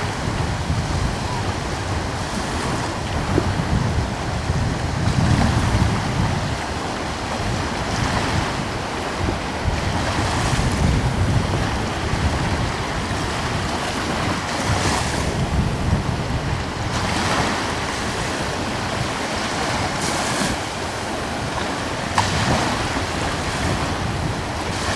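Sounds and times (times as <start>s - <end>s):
ocean waves washing in: 0.0s - 24.9s
wind rumbling on microphone: 0.0s - 24.9s.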